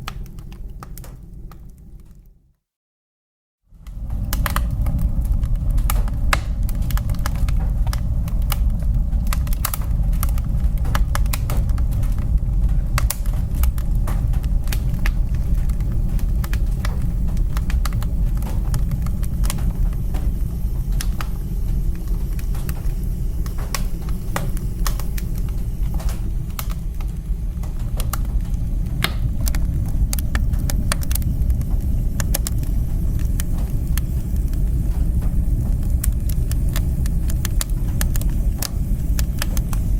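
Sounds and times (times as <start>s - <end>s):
wood fire crackling and popping: 0.0s - 2.4s, 3.7s - 39.9s
fire low roar: 3.7s - 39.9s.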